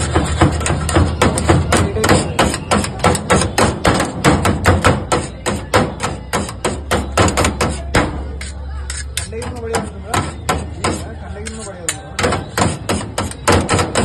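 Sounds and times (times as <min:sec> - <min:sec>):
cleaver chopping on steel: 0:00.1 - 0:08.4, 0:09.1 - 0:14.0.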